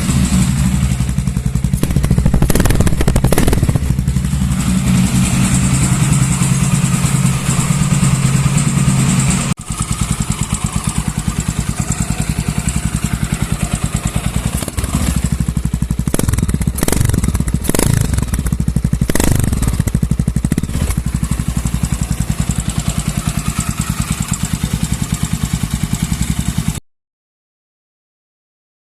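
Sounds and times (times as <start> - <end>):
motorcycle engine idling: 0.0 - 26.8
motorcycle throttle blips: 0.0 - 26.8.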